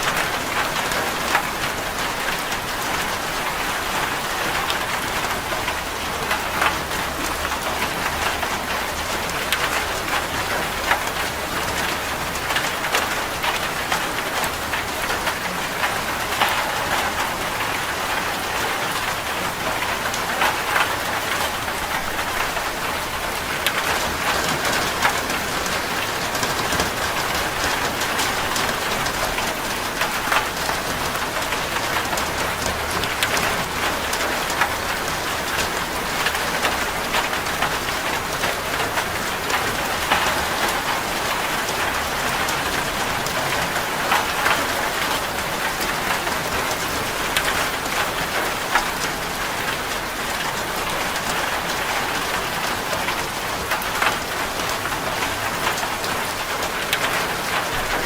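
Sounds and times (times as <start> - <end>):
rain on a metal roof: 0.0 - 58.0.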